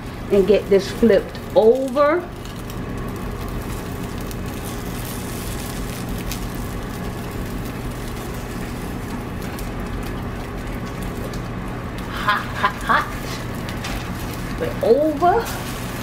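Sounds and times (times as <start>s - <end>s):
eggs sizzling in a pan: 0.0s - 16.0s.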